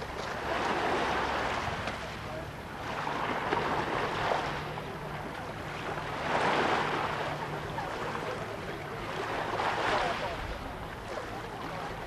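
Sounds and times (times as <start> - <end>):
sea swells washing: 0.0 - 12.0.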